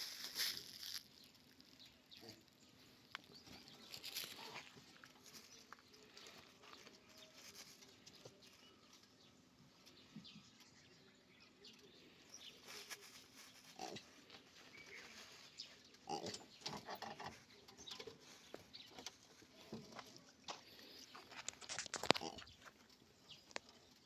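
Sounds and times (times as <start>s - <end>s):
soft rustling and patter: 0.0s - 11.0s, 11.6s - 24.0s.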